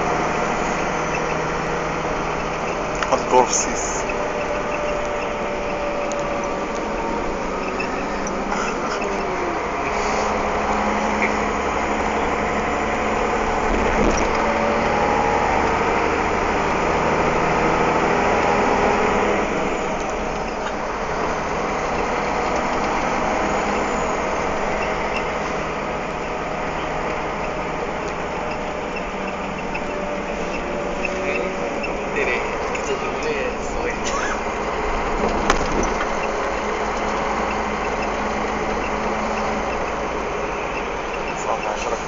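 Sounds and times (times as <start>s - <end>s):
road noise: 0.0s - 42.0s
truck engine running: 0.0s - 42.0s.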